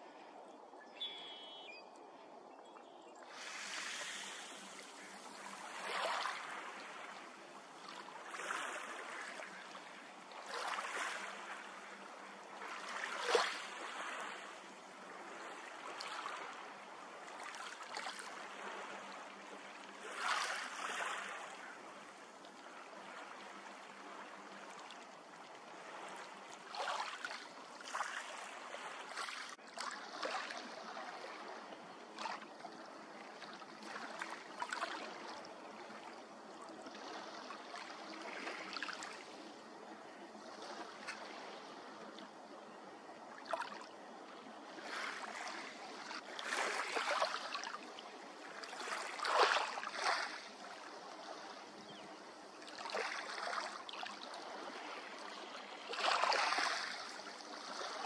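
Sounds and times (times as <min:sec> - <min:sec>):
small waves lapping and splashing: 0:00.0 - 0:58.0.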